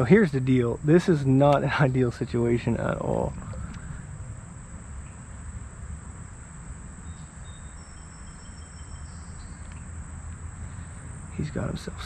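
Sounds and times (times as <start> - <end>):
creek rumble and hiss: 0.0 - 12.0
high insect tones: 0.0 - 12.0.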